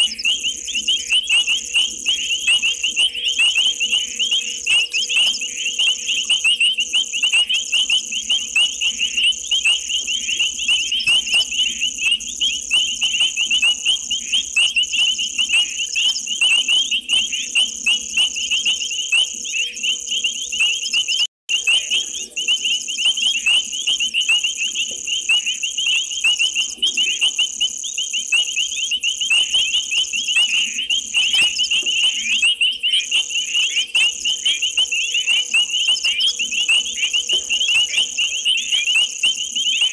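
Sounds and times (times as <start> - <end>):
frogs chirping: 0.0 - 39.9
insect trill: 0.0 - 39.9.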